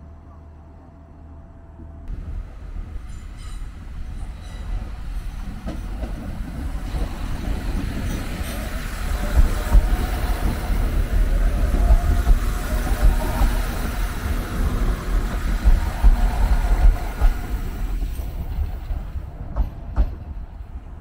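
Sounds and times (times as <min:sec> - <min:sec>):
train engine and wheels rumbling: 0:00.0 - 0:21.0.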